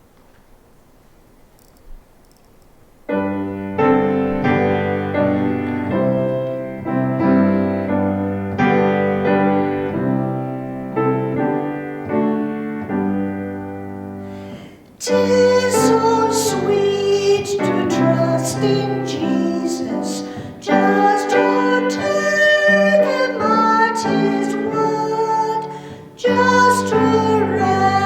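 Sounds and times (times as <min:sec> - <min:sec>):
piano playing slow chords: 0:03.1 - 0:28.0.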